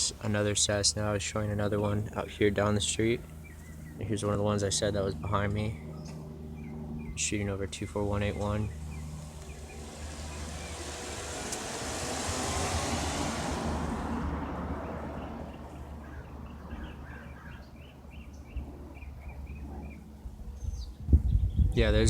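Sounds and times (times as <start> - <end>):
birds chirping: 0.0 - 21.6
light aircraft droning overhead: 0.0 - 22.0.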